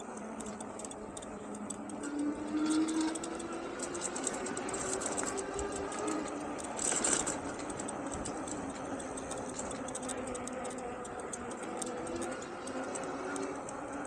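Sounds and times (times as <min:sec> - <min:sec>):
electric motor whining: 0:00.0 - 0:14.0
tyre and road noise: 0:00.0 - 0:14.0.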